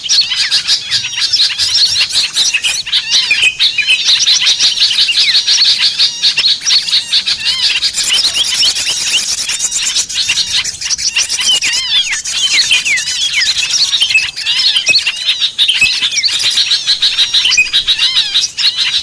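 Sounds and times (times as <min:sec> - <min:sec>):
songbirds chirping and twittering: 0:00.0 - 0:19.0.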